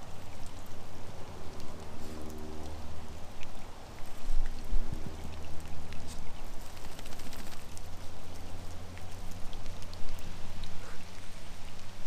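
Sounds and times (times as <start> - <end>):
rain pattering on leaves and water: 0.0 - 12.0.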